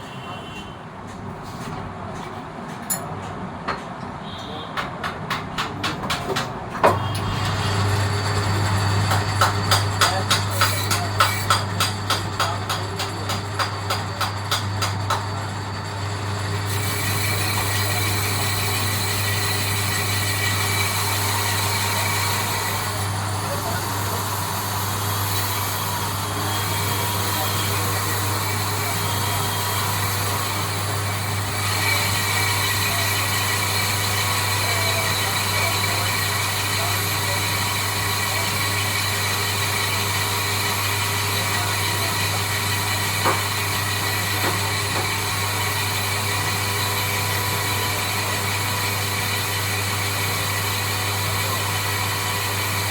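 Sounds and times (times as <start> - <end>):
lathe motor hum: 6.9 - 52.9.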